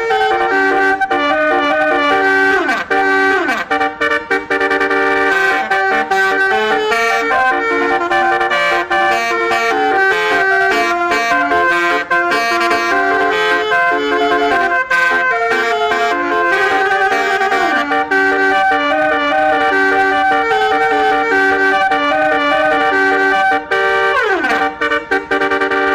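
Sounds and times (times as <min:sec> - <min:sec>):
multi-trumpet bus horn tune: 0:00.0 - 0:25.9.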